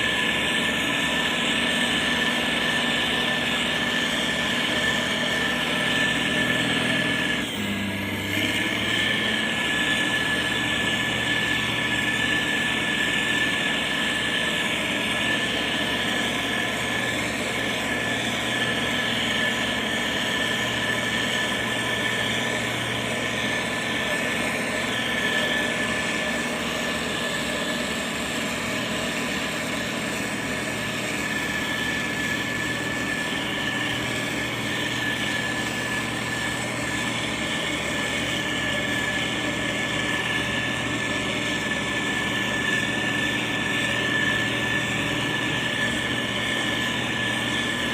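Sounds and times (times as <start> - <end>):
diesel engine running: 0.0 - 47.9
high whine: 0.0 - 47.9.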